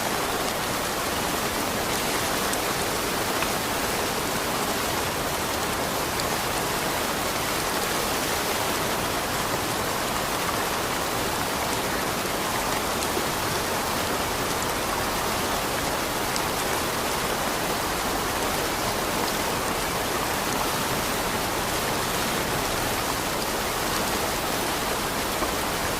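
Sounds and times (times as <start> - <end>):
steady rain hiss: 0.0 - 25.9.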